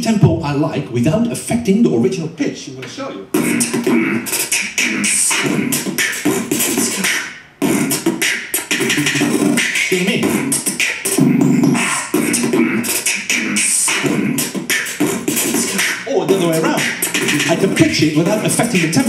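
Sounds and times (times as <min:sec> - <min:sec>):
beatbox vocal sample: 0:00.0 - 0:19.0.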